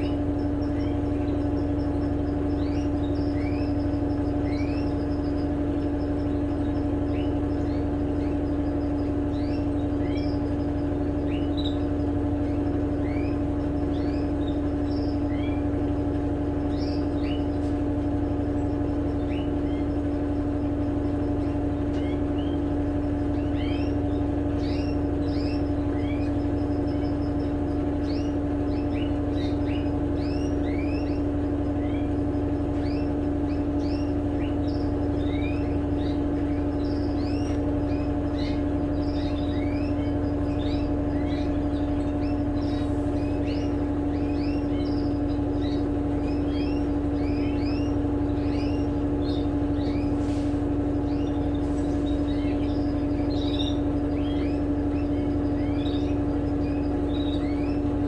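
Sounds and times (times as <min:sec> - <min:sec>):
birds chirping: 0:00.0 - 0:58.0
washing machine spinning: 0:00.0 - 0:58.0.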